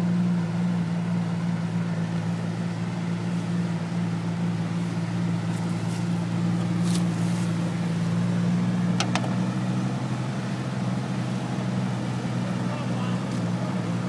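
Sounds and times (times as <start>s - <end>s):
vehicle engines droning: 0.0s - 14.0s.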